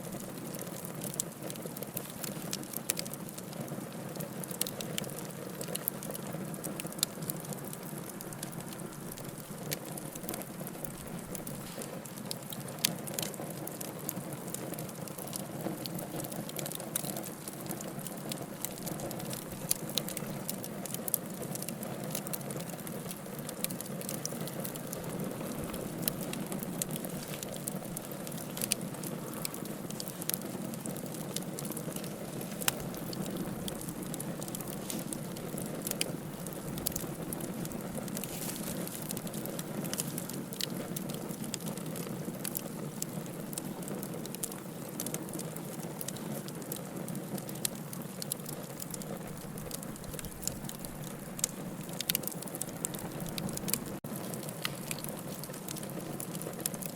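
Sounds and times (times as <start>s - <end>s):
logs crackling and popping: 0.0s - 56.9s
soft fire hiss: 0.0s - 56.9s.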